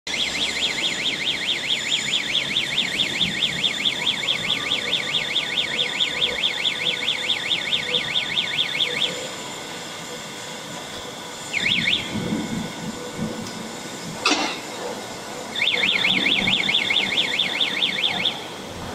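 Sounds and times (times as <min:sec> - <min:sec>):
warbling warning alarm: 0:00.1 - 0:18.9.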